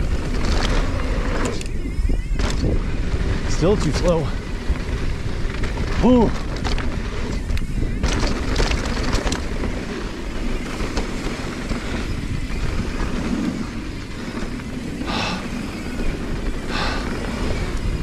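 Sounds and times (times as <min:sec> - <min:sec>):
bike tyres rumbling on dirt: 0:00.0 - 0:18.0
wind on microphone: 0:00.0 - 0:18.0.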